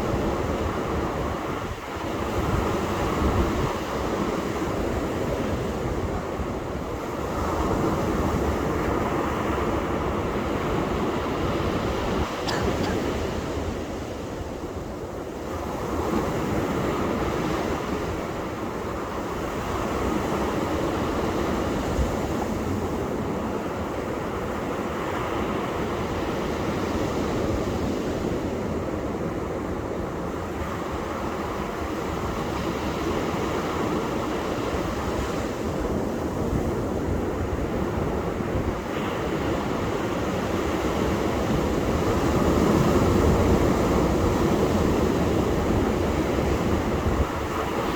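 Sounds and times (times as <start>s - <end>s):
ocean waves breaking on beach: 0.0s - 47.9s.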